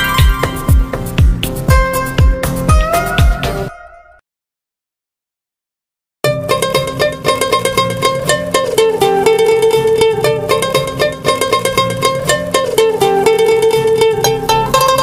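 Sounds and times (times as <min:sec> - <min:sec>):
steady bass: 0:00.0 - 0:03.7, 0:06.3 - 0:15.0
plucked-string tune: 0:00.0 - 0:04.2, 0:06.2 - 0:15.0.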